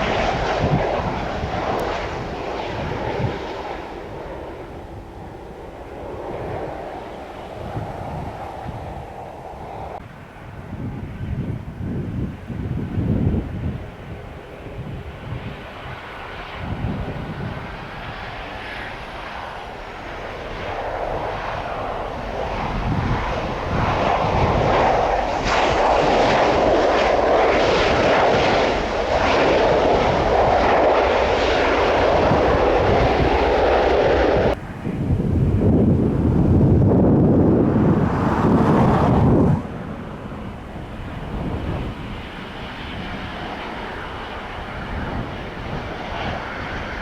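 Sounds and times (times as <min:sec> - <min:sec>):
jet airliner engine noise: 0:00.0 - 0:47.0.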